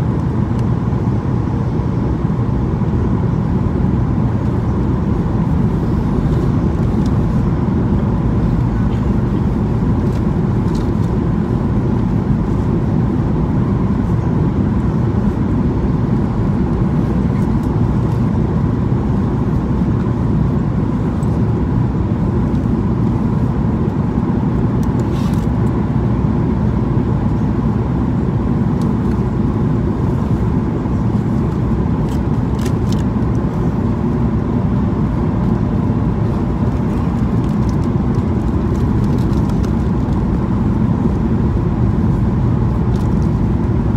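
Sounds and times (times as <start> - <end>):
airplane cabin engine rumble: 0.0 - 43.9
faint steady whine: 0.0 - 43.9.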